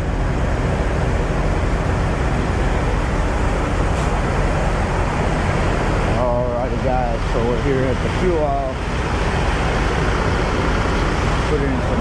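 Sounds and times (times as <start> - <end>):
road noise hiss: 0.0 - 12.0
truck diesel engine drone: 0.0 - 12.0.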